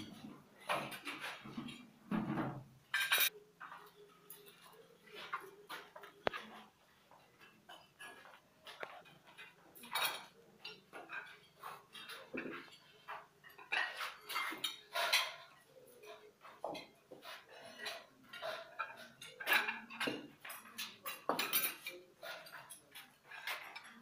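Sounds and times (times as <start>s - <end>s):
plates and cutlery clinking: 0.0s - 24.0s.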